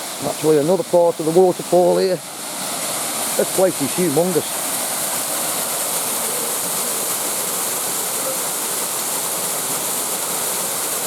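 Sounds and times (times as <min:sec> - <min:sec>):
waterfall pouring and splashing: 0:00.0 - 0:11.0.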